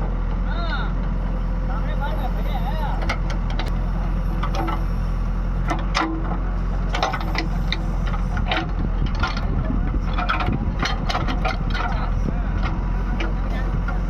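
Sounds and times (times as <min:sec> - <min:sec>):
machine engine running: 0:00.8 - 0:14.0.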